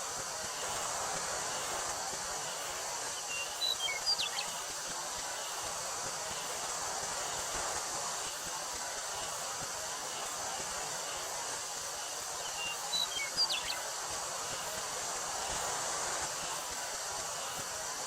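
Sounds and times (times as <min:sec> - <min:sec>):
cicadas droning: 0:00.0 - 0:18.0
wind through a wheat field: 0:00.0 - 0:18.0.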